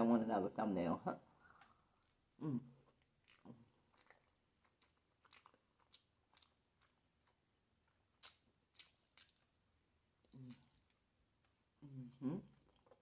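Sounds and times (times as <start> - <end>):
person chewing food: 1.5 - 11.6, 12.5 - 13.0.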